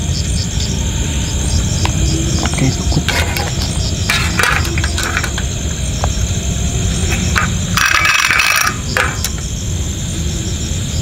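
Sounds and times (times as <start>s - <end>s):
crickets chirping: 0.0s - 11.0s
camping stove burning: 0.8s - 10.2s.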